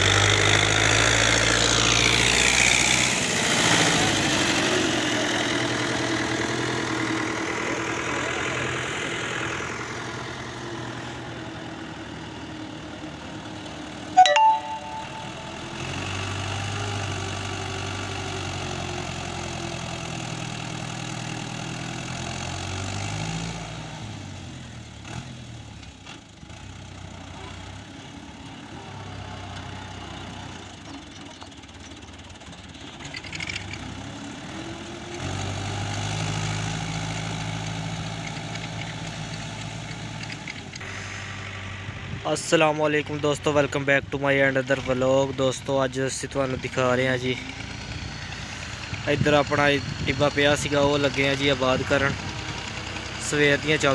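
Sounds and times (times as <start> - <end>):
tractor diesel engine revving: 0.0 - 14.1, 15.6 - 42.1, 46.5 - 53.9.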